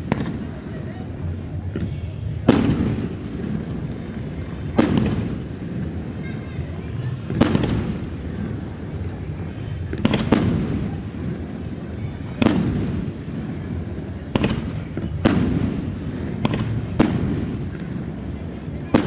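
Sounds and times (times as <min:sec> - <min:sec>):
fireworks bangs: 0:00.0 - 0:19.0
low rumble of fireworks: 0:00.0 - 0:19.0.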